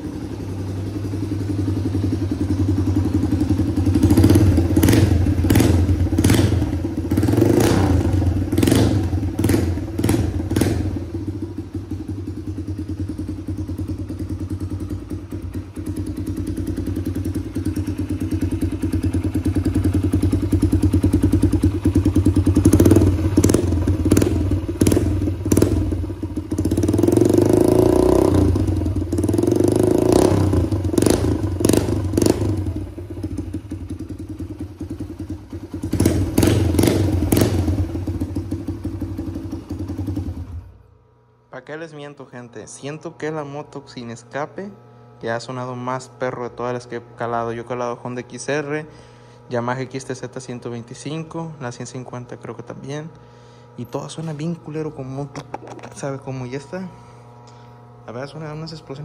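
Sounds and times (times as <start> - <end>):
motorcycle engine idling: 0.0 - 41.4, 42.3 - 59.0.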